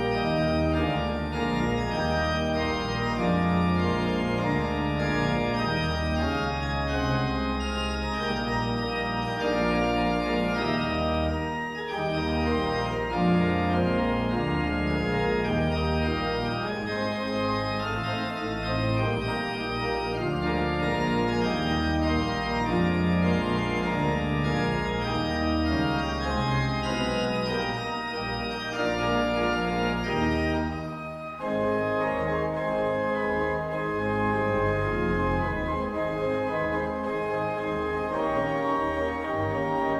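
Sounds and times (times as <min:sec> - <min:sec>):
church organ playing chords: 0:00.0 - 0:39.9.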